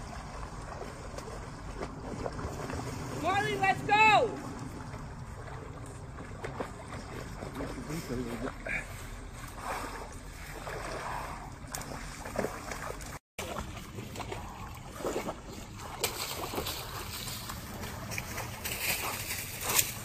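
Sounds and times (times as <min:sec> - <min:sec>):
water sloshing and splashing: 0:00.0 - 0:20.0.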